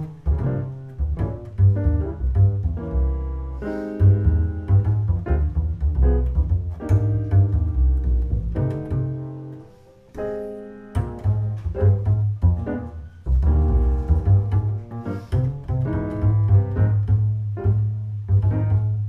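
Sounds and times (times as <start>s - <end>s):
double bass plucked: 0.0s - 19.0s
piano chords: 0.0s - 19.0s.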